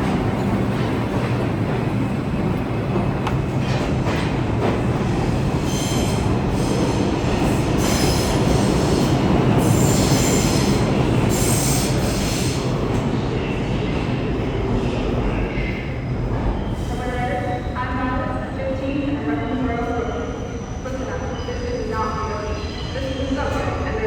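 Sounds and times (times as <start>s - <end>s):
subway train running on rails: 0.0s - 24.0s.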